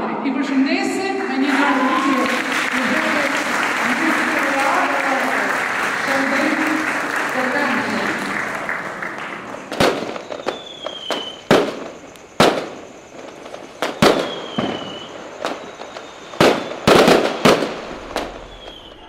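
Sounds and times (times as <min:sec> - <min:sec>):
fireworks bangs: 0:00.6 - 0:19.0
fireworks falling whistles: 0:00.8 - 0:19.0.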